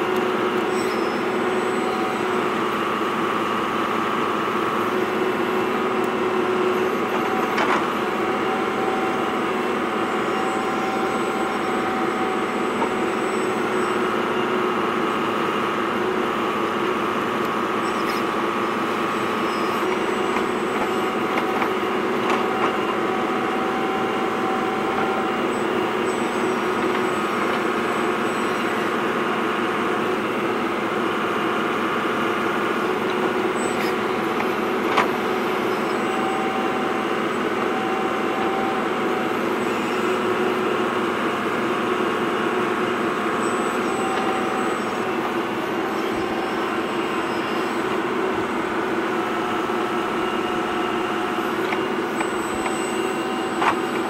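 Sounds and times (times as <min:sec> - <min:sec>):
toy excavator mechanical whine: 0:00.0 - 0:54.0.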